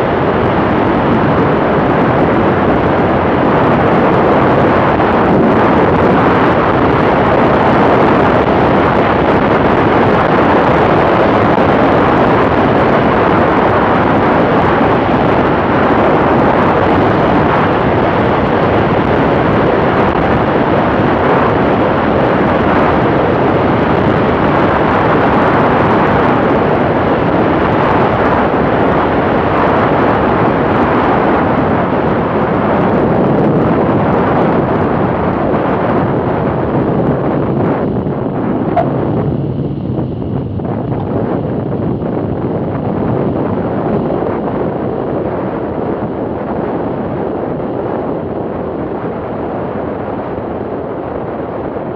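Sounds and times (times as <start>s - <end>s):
airplane engine and propeller drone: 0.0s - 51.9s
wind rushing over camera: 0.0s - 51.9s.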